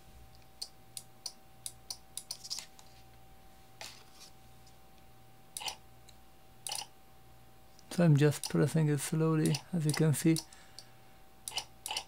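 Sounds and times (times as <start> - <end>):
faint motor whine: 0.0 - 12.0.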